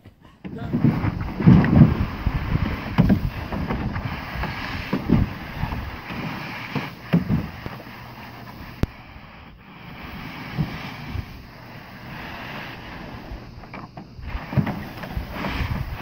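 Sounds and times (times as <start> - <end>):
hose water spraying: 0.5 - 16.0
wind on microphone: 0.5 - 16.0.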